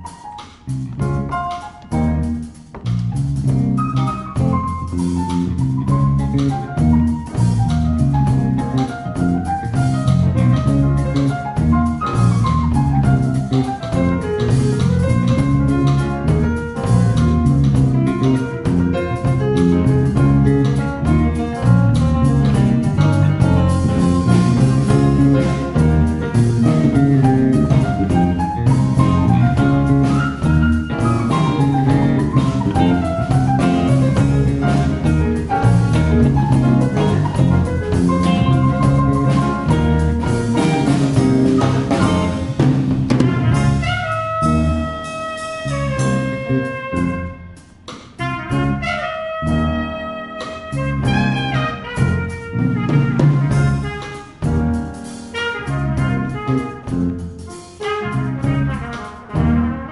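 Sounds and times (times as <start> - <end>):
drum kit: 0.0 - 59.9
electric guitar: 0.0 - 59.9
grand piano: 0.0 - 59.9
jazz band playing: 0.0 - 59.9.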